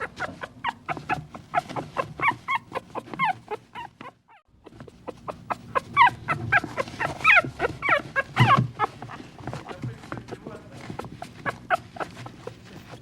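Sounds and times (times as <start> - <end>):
puppies whimpering and yipping: 0.0 - 10.0, 10.8 - 13.0.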